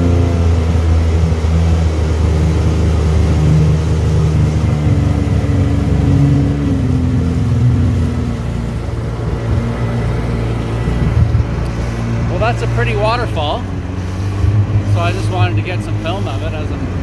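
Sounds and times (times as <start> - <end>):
watercraft engine puttering: 0.0 - 17.0.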